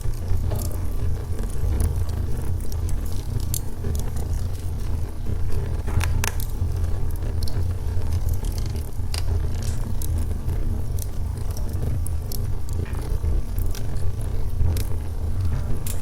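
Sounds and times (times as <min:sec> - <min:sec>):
log fire burning: 0:00.0 - 0:16.0
wood crackling and popping: 0:00.0 - 0:16.0.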